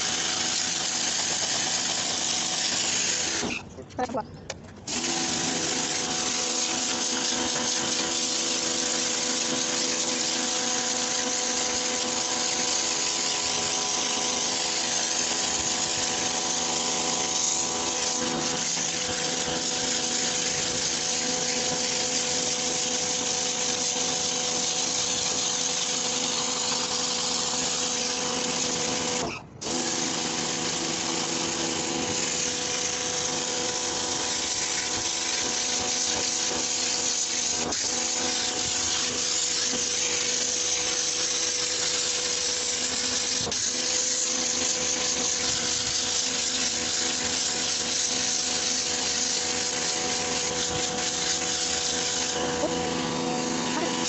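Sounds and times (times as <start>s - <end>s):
water jet spraying carpet: 0.0s - 3.6s, 4.9s - 54.0s
pressure washer motor humming: 0.0s - 4.2s, 4.8s - 54.0s.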